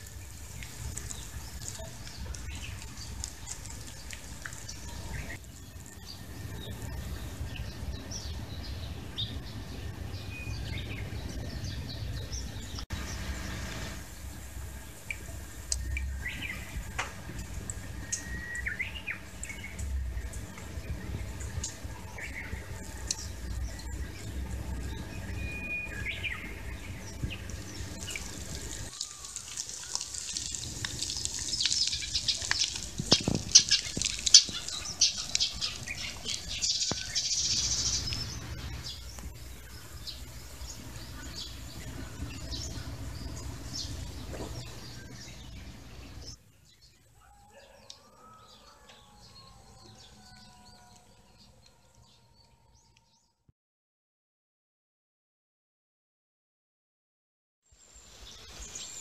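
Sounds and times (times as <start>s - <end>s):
small birds chirping: 0.0s - 53.4s.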